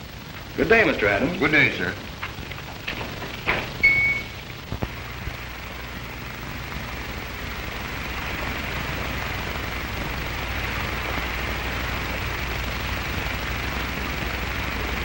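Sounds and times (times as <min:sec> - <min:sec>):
film soundtrack hiss: 0:00.0 - 0:15.0
low hum: 0:00.0 - 0:15.0.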